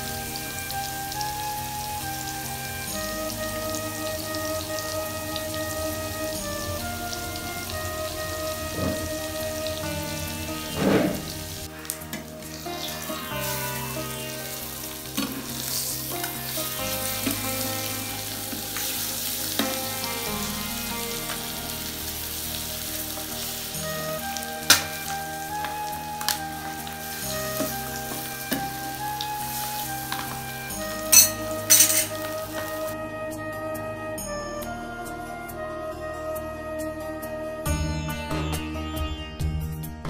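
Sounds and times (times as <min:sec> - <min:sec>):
oil sizzling in a pan: 0:00.0 - 0:33.0.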